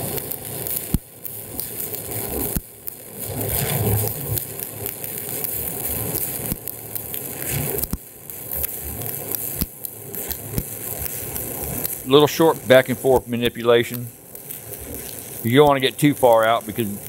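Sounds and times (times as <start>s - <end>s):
sharp pops of welding arc: 0.0s - 17.0s
welding arc crackling: 0.0s - 17.0s.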